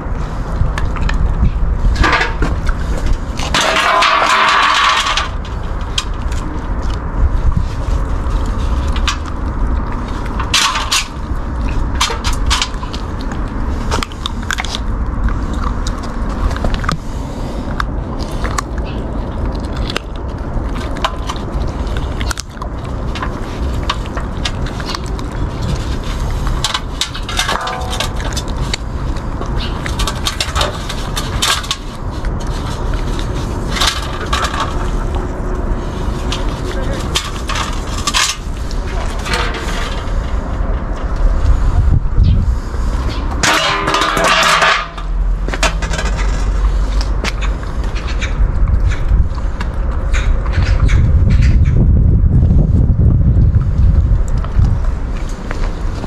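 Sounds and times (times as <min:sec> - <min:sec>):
puppy eating from metal bowl: 0:00.0 - 0:42.0, 0:42.7 - 0:56.0
low rumble: 0:00.0 - 0:56.0.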